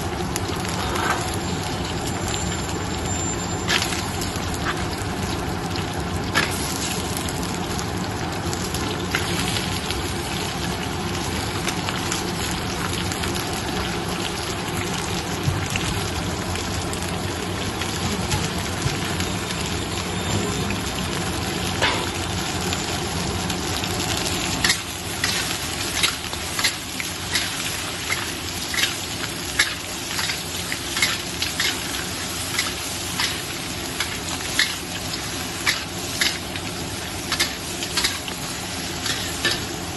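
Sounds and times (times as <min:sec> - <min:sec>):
crab sizzling in a hot pan: 0:00.0 - 0:39.9.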